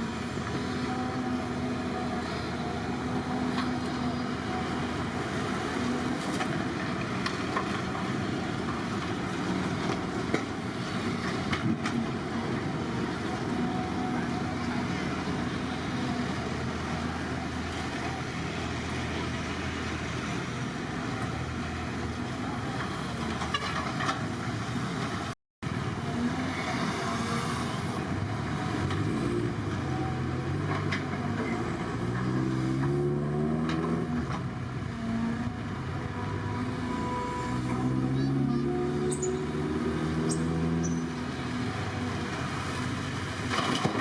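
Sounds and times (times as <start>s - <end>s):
diesel earthmoving machinery running: 0.0s - 44.0s.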